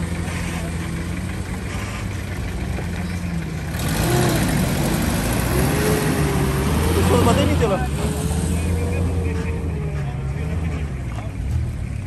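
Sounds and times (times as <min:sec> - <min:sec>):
pickup truck engine running: 0:00.0 - 0:12.0.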